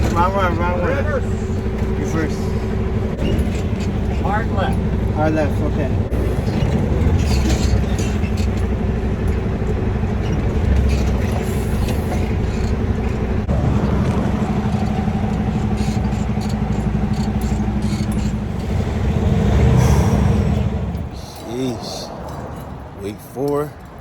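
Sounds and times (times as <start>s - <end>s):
diesel truck engine reversing: 0.0s - 23.0s.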